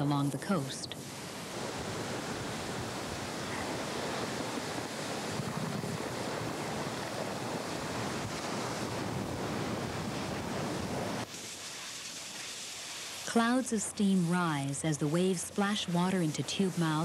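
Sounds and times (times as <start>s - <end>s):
ocean surf washing ashore: 0.0s - 17.0s.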